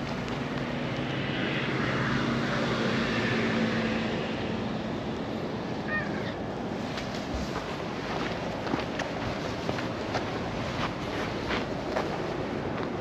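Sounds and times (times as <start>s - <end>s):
distant engine drone: 0.0s - 13.0s.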